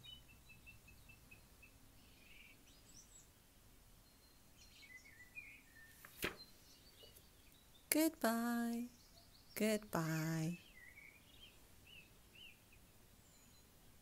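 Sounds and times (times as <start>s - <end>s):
faint bird chirps: 0.0s - 8.0s, 8.7s - 14.0s.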